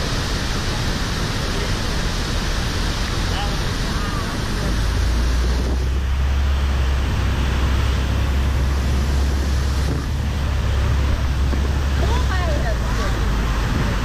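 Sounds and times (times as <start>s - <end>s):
churning whitewater: 0.0s - 14.0s
heavy low rumble: 0.0s - 14.0s
waterfall rushing: 0.0s - 14.0s.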